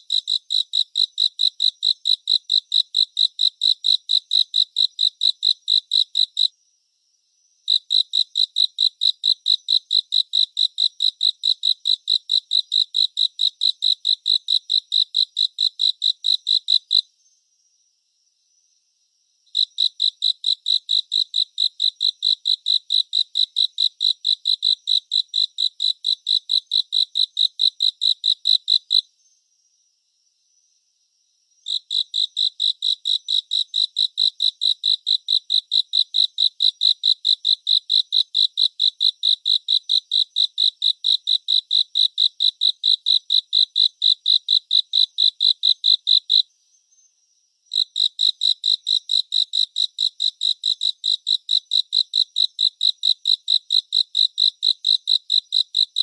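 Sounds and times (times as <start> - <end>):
cricket chirping: 0.0 - 56.0
insect trill: 0.0 - 56.0.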